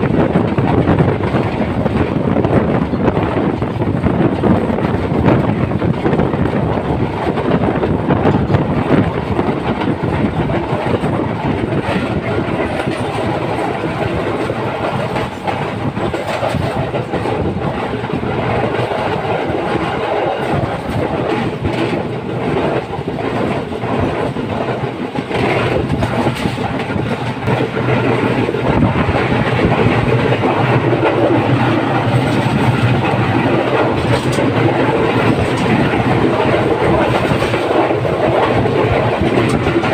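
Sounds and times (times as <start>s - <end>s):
train rumble: 0.0s - 39.9s
train wheels clattering over joints: 0.0s - 39.9s.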